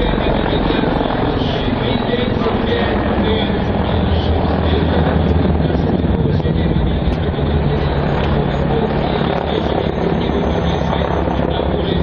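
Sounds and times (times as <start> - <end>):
helicopter turbine and rotor: 0.0 - 12.0.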